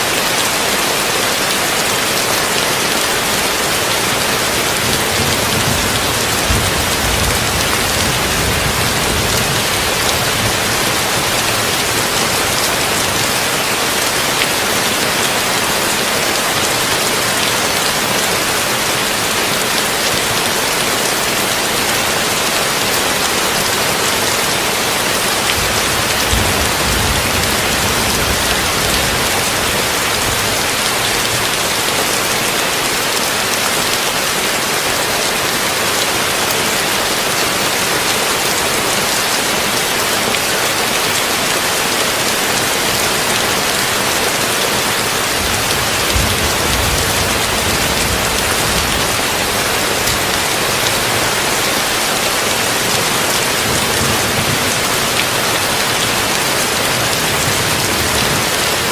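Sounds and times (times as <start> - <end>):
heavy rain on a tin roof: 0.0 - 58.9.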